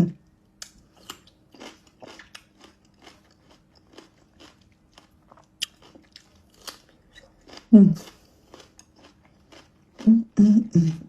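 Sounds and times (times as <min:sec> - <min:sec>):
chewing with wet clicks: 0:00.6 - 0:10.1.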